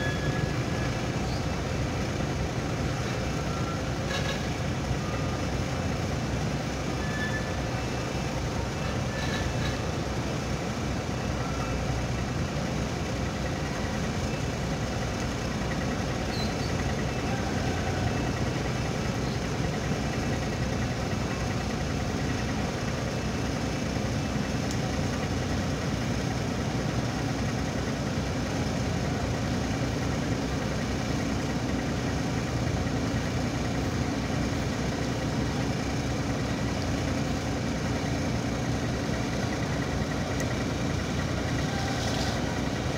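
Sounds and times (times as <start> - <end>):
ship engine drone: 0.0 - 42.9.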